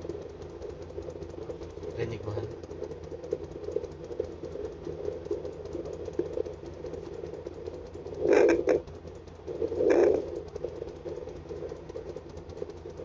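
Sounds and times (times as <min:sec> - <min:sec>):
crackle: 0:00.0 - 0:13.0
fetal heartbeat pulsing whoosh: 0:00.0 - 0:13.0.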